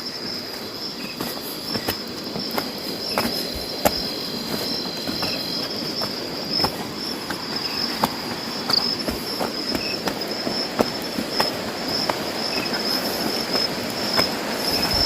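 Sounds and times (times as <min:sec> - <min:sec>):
background hiss: 0:00.0 - 0:15.0
high-pitched insect chorus: 0:00.0 - 0:15.0.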